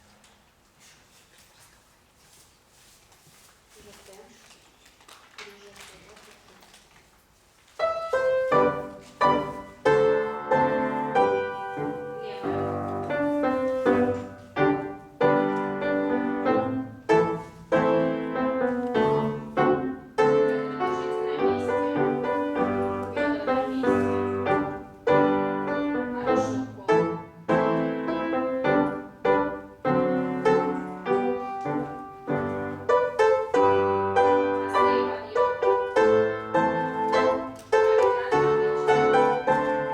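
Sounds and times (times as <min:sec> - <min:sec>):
classical piano accompaniment: 0:07.7 - 0:39.9.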